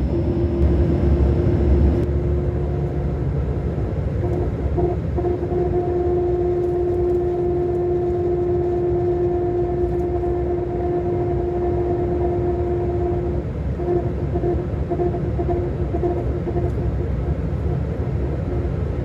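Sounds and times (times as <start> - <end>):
diesel engine rumbling: 0.0 - 19.0
engine whine: 0.0 - 19.0.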